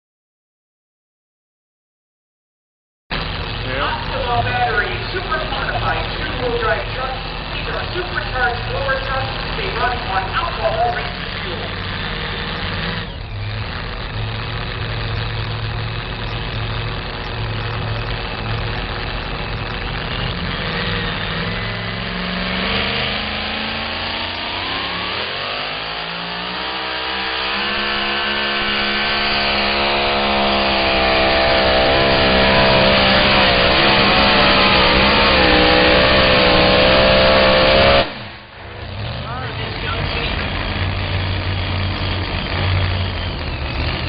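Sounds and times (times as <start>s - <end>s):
truck engine idling and revving: 3.1s - 44.0s.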